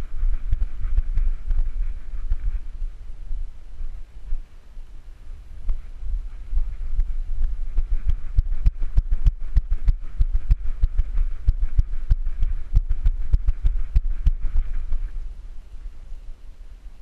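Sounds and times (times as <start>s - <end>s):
dog's feet pounding ground: 0.0s - 4.5s, 5.6s - 15.2s.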